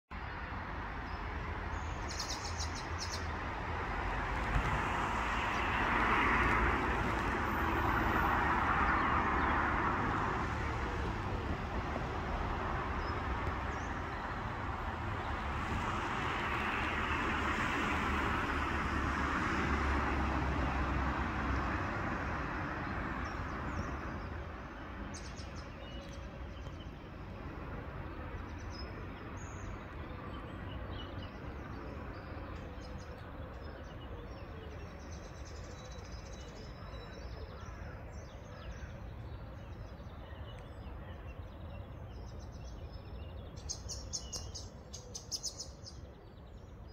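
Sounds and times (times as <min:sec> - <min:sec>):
distant traffic rush: 0:00.1 - 0:46.9.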